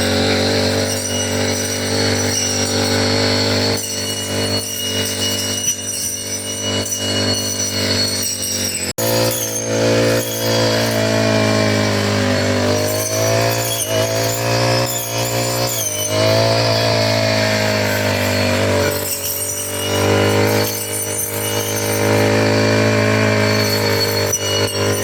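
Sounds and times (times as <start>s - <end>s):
brush cutter engine cutting grass: 0.0s - 25.0s.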